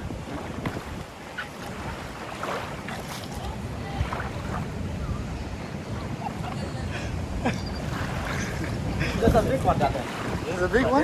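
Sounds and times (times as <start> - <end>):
sea waves: 0.0 - 11.0
wind buffeting microphone: 0.0 - 11.0.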